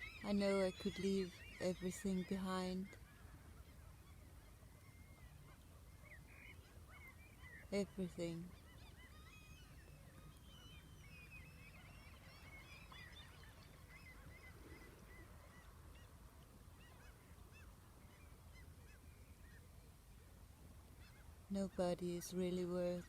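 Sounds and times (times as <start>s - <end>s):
flock of birds calling: 0.0s - 19.6s.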